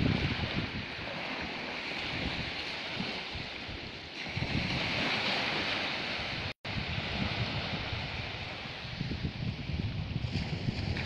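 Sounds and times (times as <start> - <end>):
sea washing on rocky shore: 0.0 - 11.0
wind gusting on microphone: 0.0 - 11.0.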